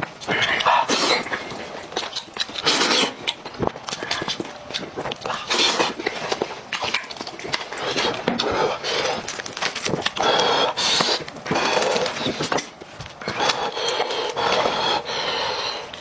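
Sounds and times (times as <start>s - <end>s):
mouth chewing and smacking: 0.0s - 16.0s
meat and bone torn apart: 0.5s - 14.7s.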